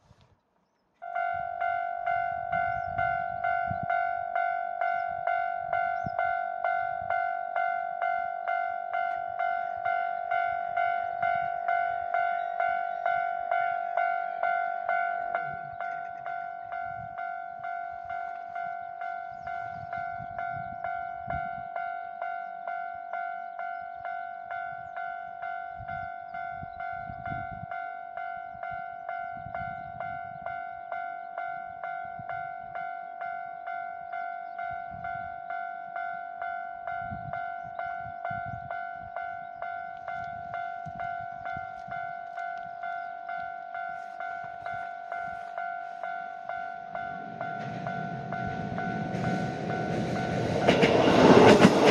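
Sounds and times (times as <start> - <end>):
railroad crossing bell ringing: 1.0 - 51.9.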